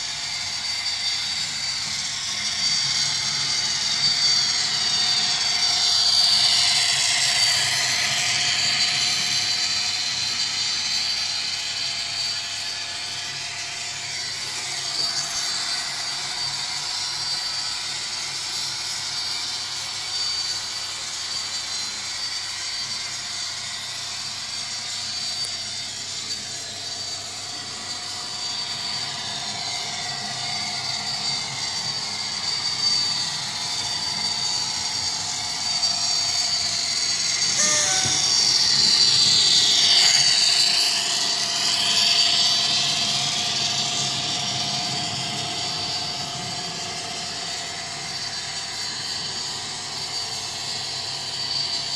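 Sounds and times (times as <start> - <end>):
model train whine and diesel sound: 0.0 - 51.9.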